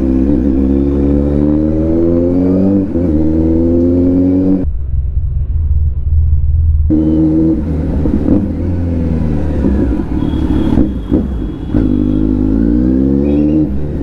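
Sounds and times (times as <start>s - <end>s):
motorcycle engine revving: 0.0s - 4.7s, 6.9s - 14.0s.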